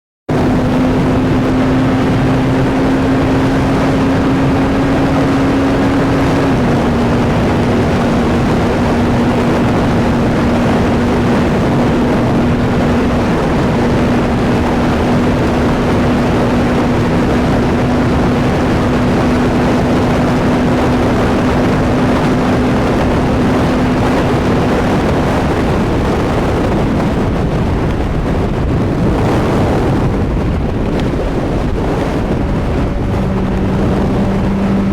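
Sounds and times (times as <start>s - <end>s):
motorcycle engine cruising: 0.3s - 34.9s
wind rush on microphone: 0.3s - 34.9s.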